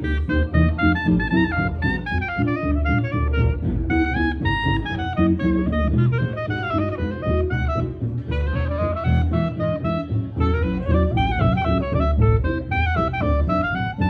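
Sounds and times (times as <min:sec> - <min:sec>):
jazz band music: 0:00.0 - 0:14.0.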